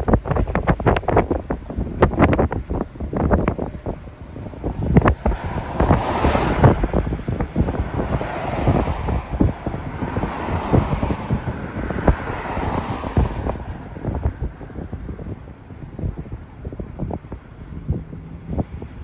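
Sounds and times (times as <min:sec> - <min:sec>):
rushing wind: 0:00.0 - 0:19.0
wind buffeting microphone: 0:00.0 - 0:19.0.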